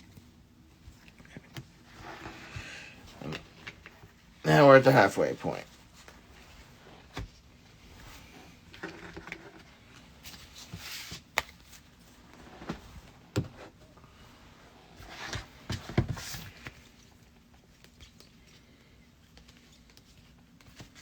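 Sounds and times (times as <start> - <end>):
card packs rustling and crinkling: 0.0 - 21.0.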